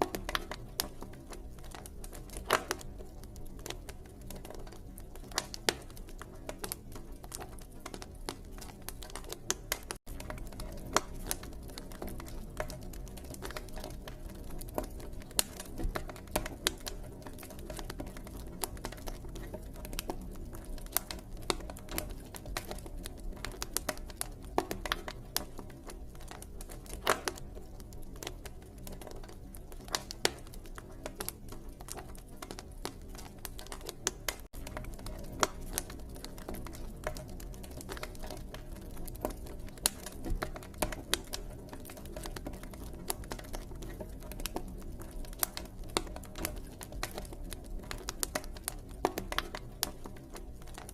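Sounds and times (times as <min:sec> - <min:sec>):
campfire crackling and popping: 0:00.0 - 0:50.9
low rush of flames: 0:00.0 - 0:50.9.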